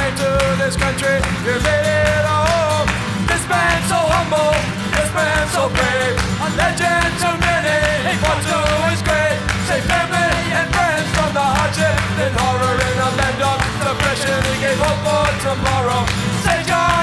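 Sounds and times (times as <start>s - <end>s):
drum beat: 0.0s - 17.0s
guitar: 0.0s - 17.0s
man singing: 0.0s - 17.0s.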